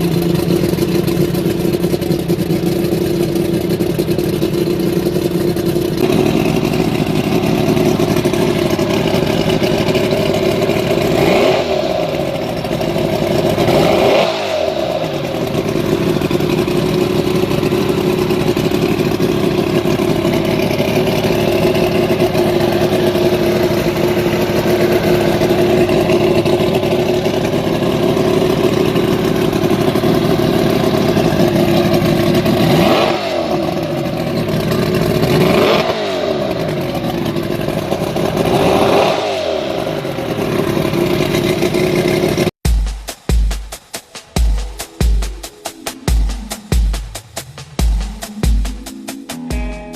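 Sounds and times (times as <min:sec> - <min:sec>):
outboard engine running: 0:00.0 - 0:42.6.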